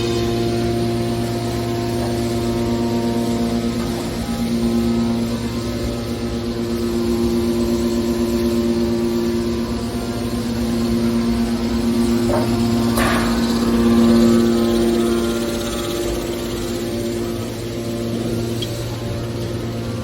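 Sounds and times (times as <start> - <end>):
hydraulic baler humming: 0.0 - 20.0.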